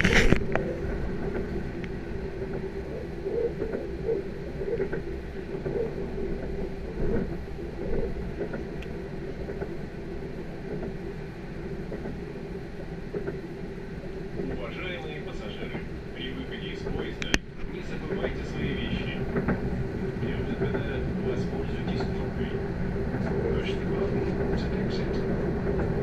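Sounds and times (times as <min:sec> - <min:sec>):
steady hum: 0:00.0 - 0:26.0
train interior rumble: 0:00.0 - 0:26.0.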